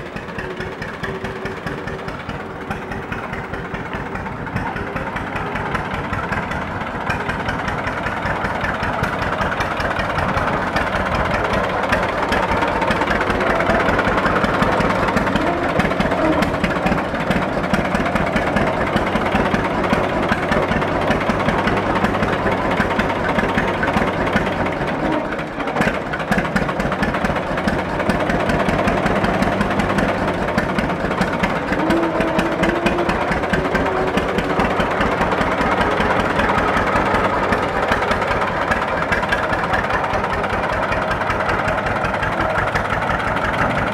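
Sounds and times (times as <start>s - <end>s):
two-cylinder engine running: 0.0s - 43.9s.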